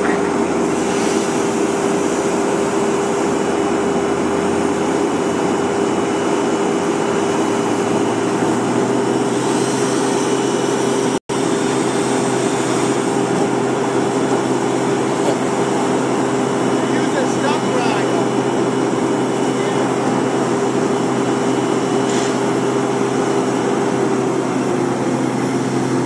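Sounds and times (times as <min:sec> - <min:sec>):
wood chipper running: 0:00.0 - 0:26.0.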